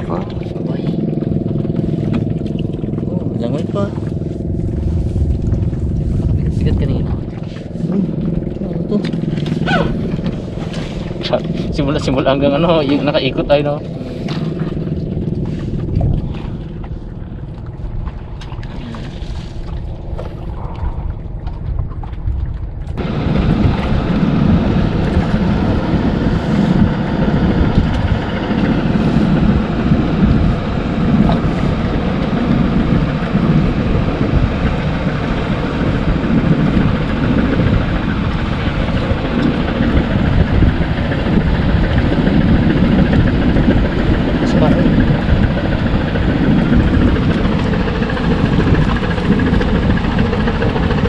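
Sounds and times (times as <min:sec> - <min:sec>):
boat engine running: 0:00.0 - 0:51.0
wind buffeting microphone: 0:00.0 - 0:51.0.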